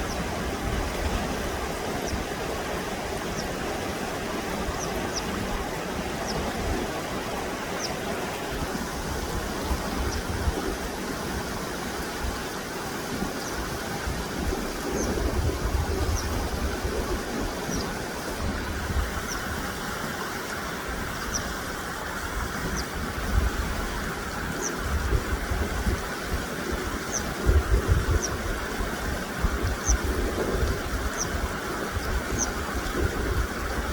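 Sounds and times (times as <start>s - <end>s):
water rushing with low rumble: 0.0s - 33.9s.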